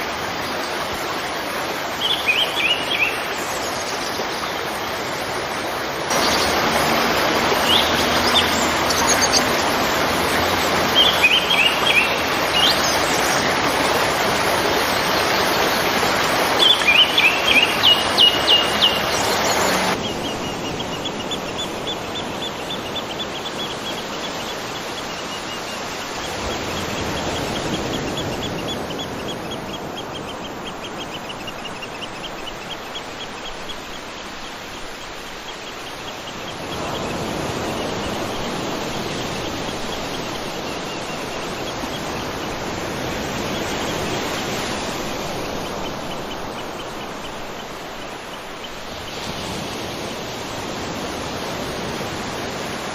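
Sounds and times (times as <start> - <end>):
birds chirping: 0.0 - 52.7
waterfall rushing: 0.0 - 52.9.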